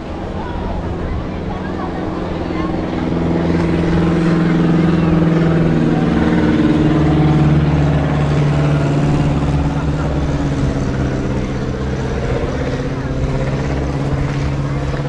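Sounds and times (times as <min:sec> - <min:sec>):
engine running at low speed: 0:00.0 - 0:15.0.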